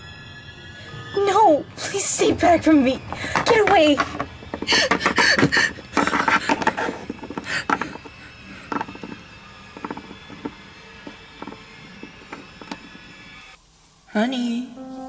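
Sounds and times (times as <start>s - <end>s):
rustling: 1.8s - 13.9s.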